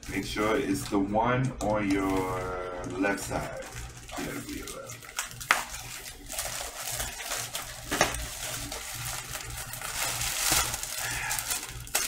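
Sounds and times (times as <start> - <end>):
cardboard and paper rustling: 1.7 - 12.0.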